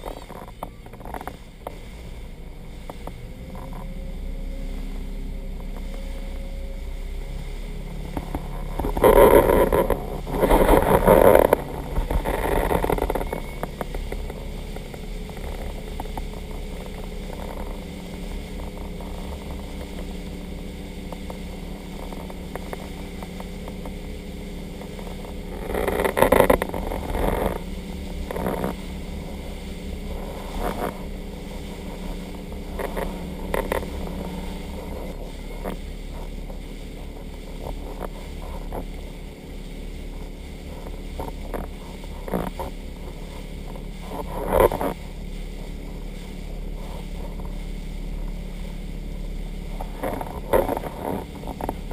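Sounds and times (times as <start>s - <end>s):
motorboat engine running: 0.0s - 51.9s
wind and water rushing: 0.0s - 51.9s.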